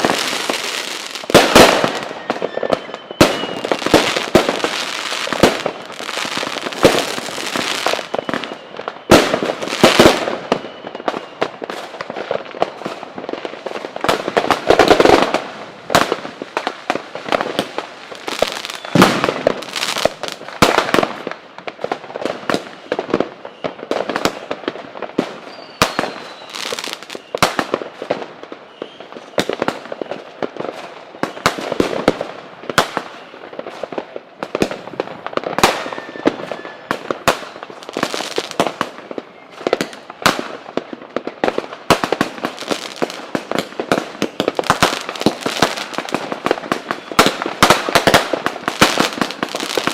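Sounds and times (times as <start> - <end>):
faint fireworks whistles: 0.0 - 49.9
fireworks bangs and crackling: 0.0 - 49.9.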